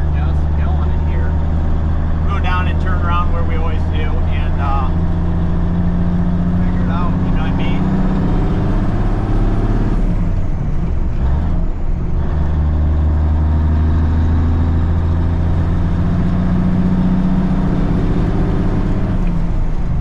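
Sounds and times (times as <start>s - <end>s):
truck diesel engine from cab: 0.0s - 20.0s.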